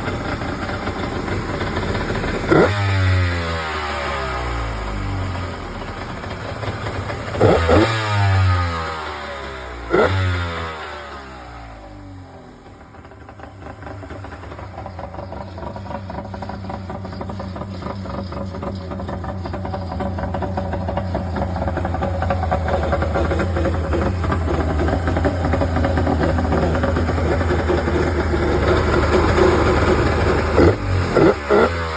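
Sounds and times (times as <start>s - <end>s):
jet ski engine idling: 0.0s - 31.9s.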